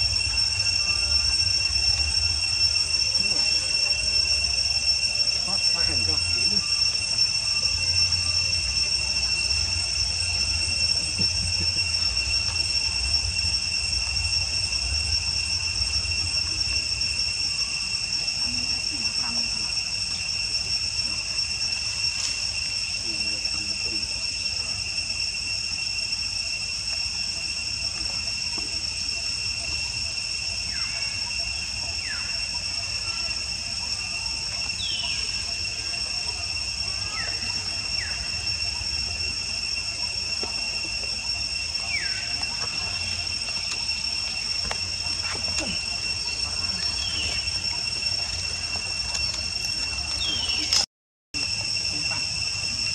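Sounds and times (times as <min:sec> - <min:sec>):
high falling calls: 0:00.0 - 0:52.9
insects droning: 0:00.0 - 0:52.9.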